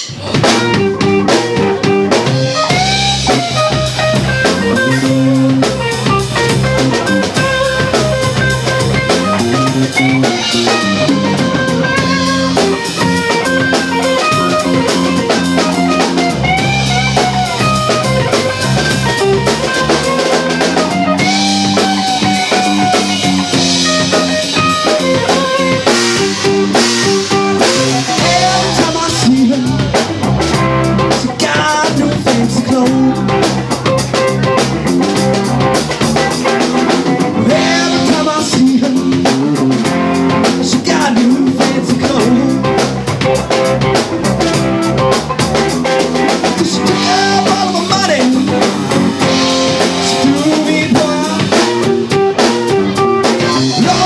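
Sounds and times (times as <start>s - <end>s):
bent guitar notes: 0.0s - 54.0s
drum kit: 0.0s - 54.0s.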